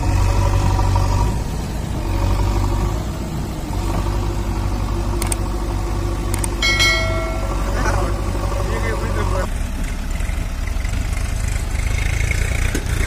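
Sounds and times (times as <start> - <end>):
diesel engine under hydraulic load: 0.0 - 13.0.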